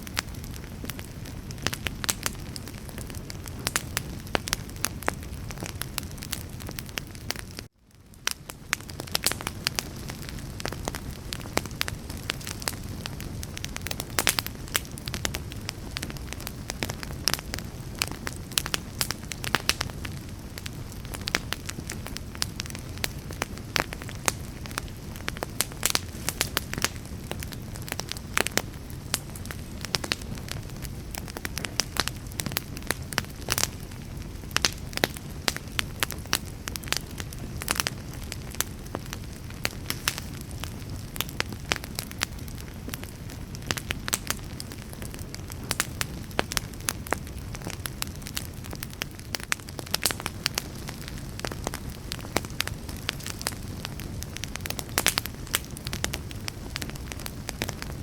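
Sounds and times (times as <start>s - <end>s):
fire crackling and popping: 0.0s - 58.0s
wood fire burning: 0.0s - 58.0s.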